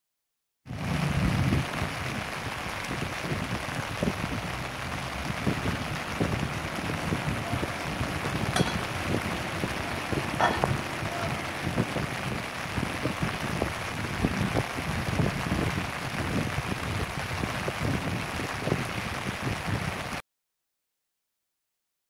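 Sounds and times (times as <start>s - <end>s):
rain falling: 0.7s - 20.2s
wind buffeting microphone: 0.8s - 20.2s.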